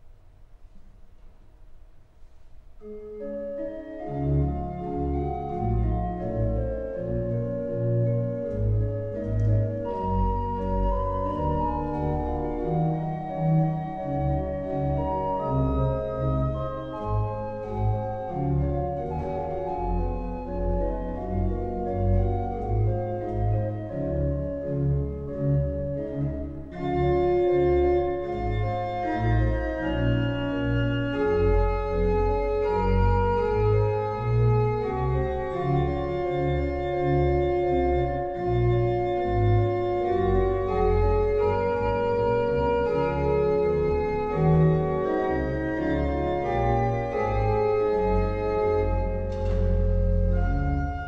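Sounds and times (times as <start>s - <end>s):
pipe organ playing chords: 2.2s - 51.0s.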